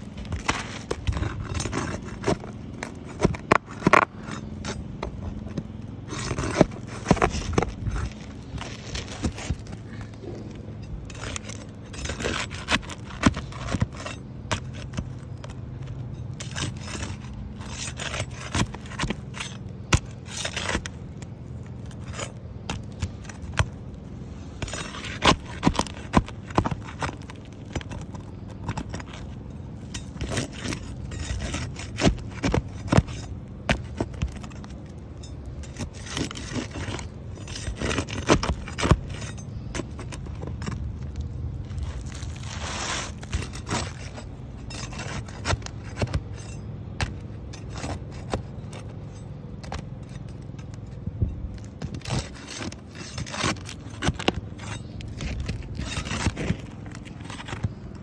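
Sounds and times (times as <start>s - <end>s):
pry bar scraping shingles: 0.0s - 58.0s.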